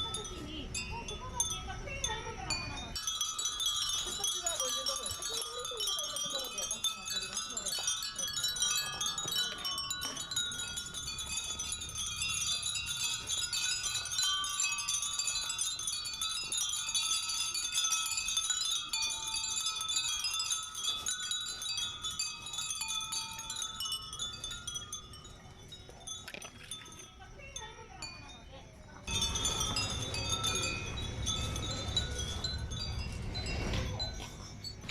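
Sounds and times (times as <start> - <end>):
wind bells tinkling: 0.0 - 34.9.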